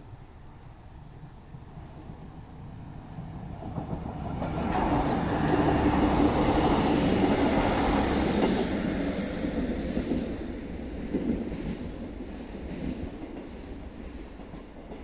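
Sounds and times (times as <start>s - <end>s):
train wheels on rail: 1.0s - 15.0s.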